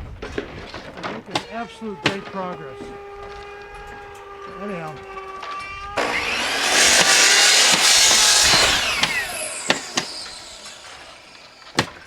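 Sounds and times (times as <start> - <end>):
power saw cutting: 1.3 - 12.0.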